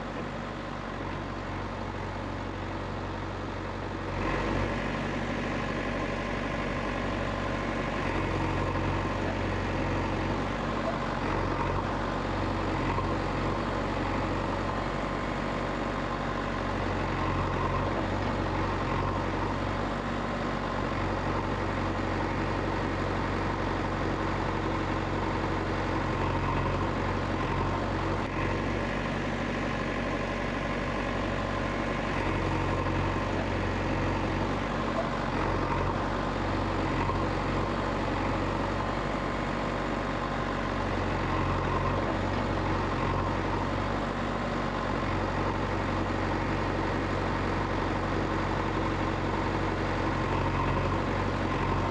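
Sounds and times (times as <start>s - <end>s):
heavy vehicle engine droning: 0.0s - 51.9s.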